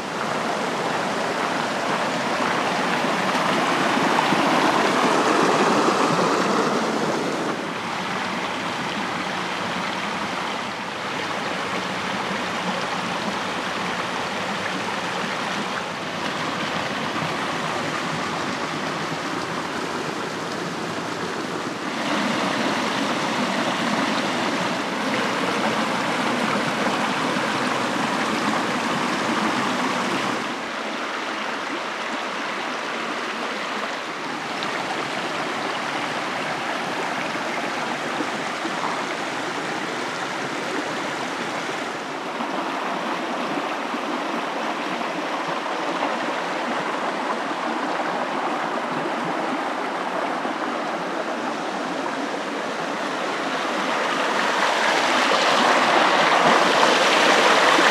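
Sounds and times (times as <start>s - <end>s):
stream rushing over stones: 0.0s - 57.9s.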